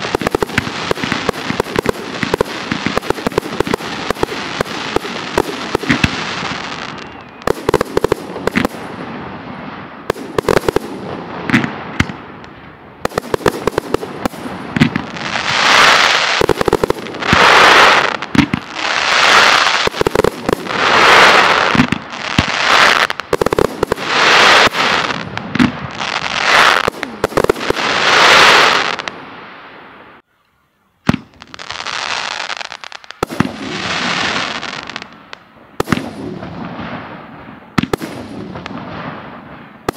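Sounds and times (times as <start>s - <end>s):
fireworks bursting with sharp bangs: 0.0s - 30.2s, 31.0s - 39.9s.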